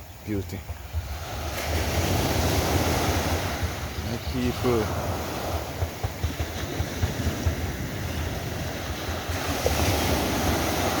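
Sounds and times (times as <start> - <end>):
ocean waves breaking on beach: 0.0 - 11.0
wind buffeting microphone: 0.0 - 11.0.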